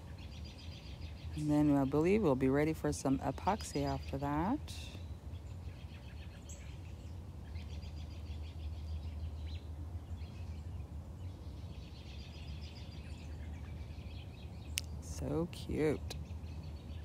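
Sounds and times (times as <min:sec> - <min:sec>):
birds twittering: 0:00.0 - 0:17.0.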